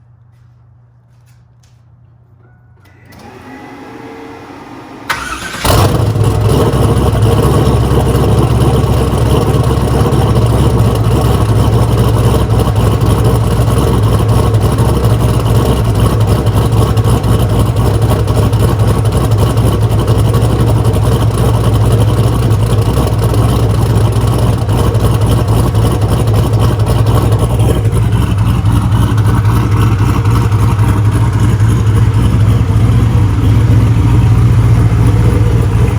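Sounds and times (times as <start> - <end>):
car engine cranking: 5.0 - 35.9
car engine idling loudly: 5.1 - 35.9.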